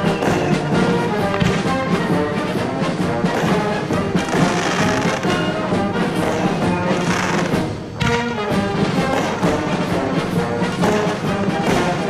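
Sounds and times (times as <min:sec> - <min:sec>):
orchestral music with brass: 0:00.0 - 0:12.0.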